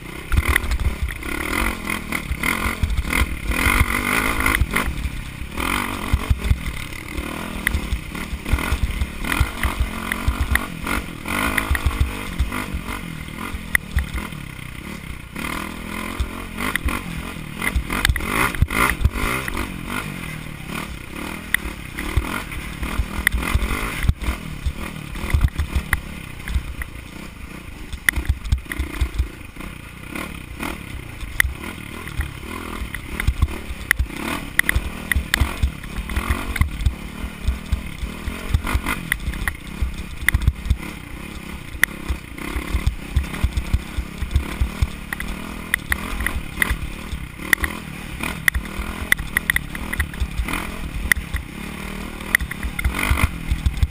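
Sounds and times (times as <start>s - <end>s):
dirt bike engine under load: 0.1s - 53.9s.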